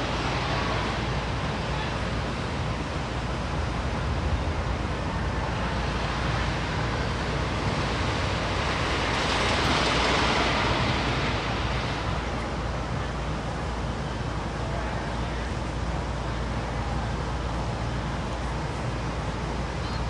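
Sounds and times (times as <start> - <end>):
rushing outdoor noise: 0.0 - 20.0.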